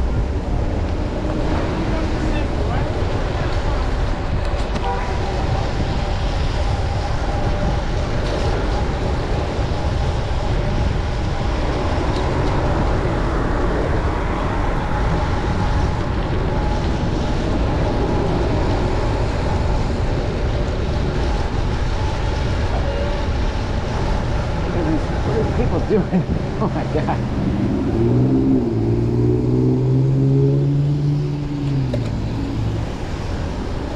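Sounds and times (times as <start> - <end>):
road noise hiss: 0.0 - 33.9
wind on microphone: 0.0 - 33.9.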